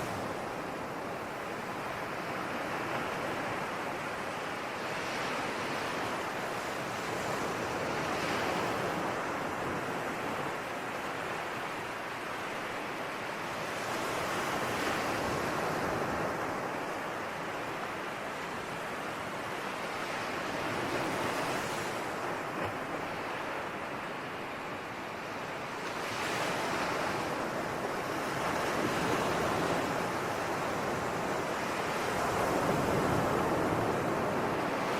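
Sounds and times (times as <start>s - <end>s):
ocean waves washing on shore: 0.0s - 34.9s.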